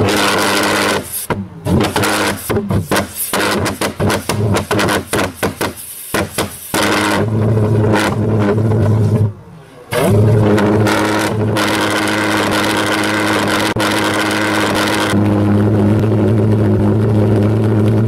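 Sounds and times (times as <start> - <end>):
pulse jet engine popping and droning: 0.0 - 18.0.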